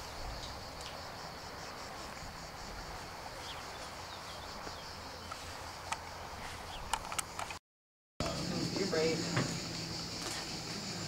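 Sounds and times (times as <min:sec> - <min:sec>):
insects chirring: 0:00.0 - 0:07.6, 0:08.2 - 0:11.0.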